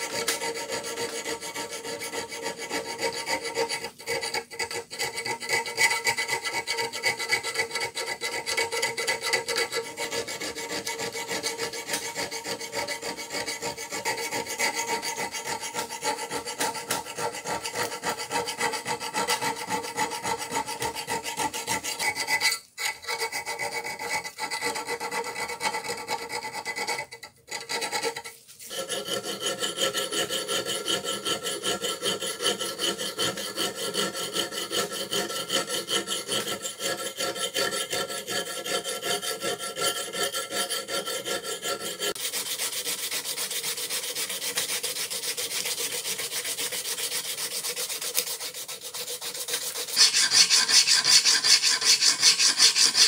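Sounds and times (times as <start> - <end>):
hand file scraping steel: 0.0 - 53.0.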